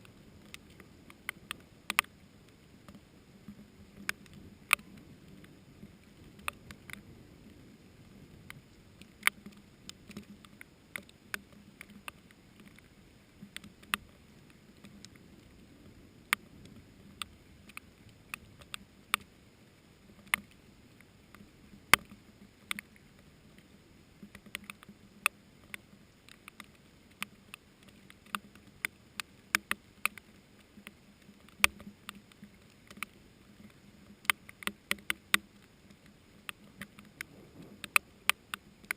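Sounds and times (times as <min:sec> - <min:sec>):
faint low hum: 0:00.0 - 0:38.9
raindrops ticking: 0:00.0 - 0:38.9.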